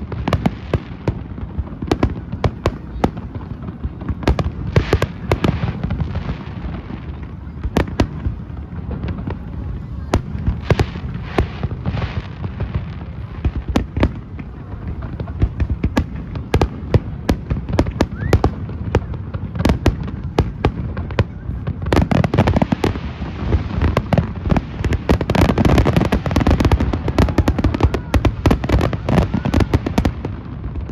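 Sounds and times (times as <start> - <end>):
fireworks bangs: 0.0 - 30.9
fireworks crackling: 0.0 - 30.9.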